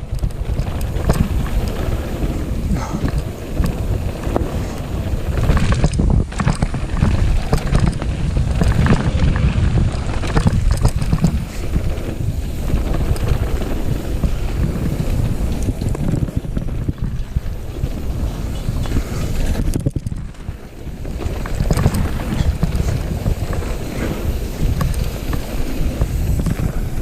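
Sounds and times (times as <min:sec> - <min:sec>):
bike rattling and knocking: 0:00.0 - 0:27.0
bike tyres on dirt trail: 0:00.0 - 0:27.0
wind buffeting microphone: 0:00.0 - 0:27.0.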